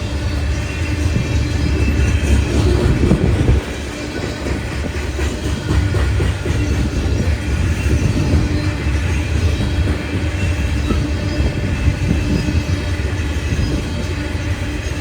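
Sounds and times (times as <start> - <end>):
train rumbling past: 0.0 - 15.0
train wheels clicking over rails: 0.0 - 15.0.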